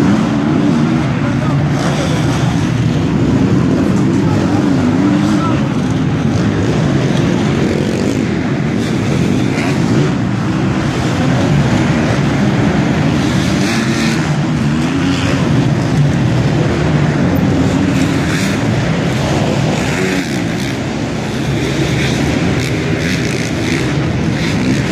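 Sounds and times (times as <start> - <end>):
motocross bike engines revving: 0.0 - 24.9.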